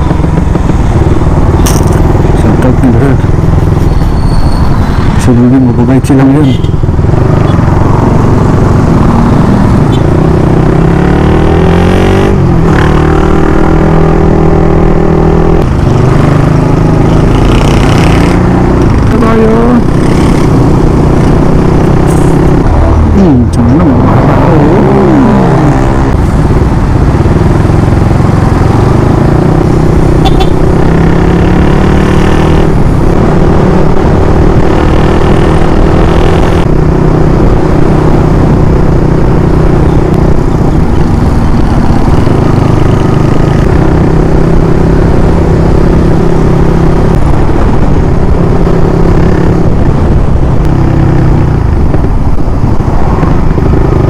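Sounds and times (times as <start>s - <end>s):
rushing wind noise: 0.0s - 5.8s, 6.7s - 54.0s
motorcycle engine running: 0.0s - 54.0s.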